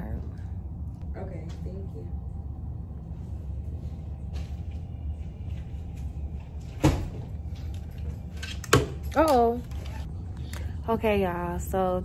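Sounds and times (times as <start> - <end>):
steady low rumble: 0.0 - 8.4, 9.6 - 12.0.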